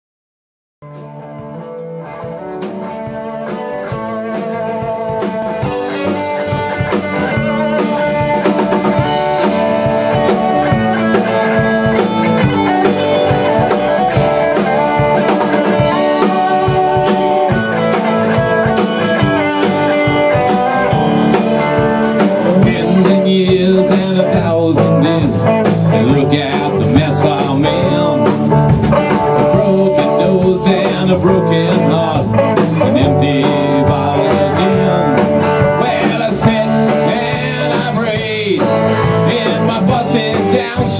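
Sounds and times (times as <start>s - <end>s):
rock band playing: 0.8s - 40.9s.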